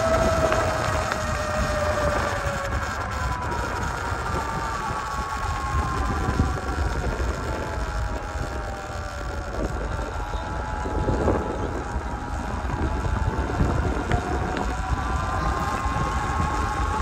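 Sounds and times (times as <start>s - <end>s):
electric motor whine: 0.0s - 17.0s
wind rumble on microphone: 0.0s - 17.0s.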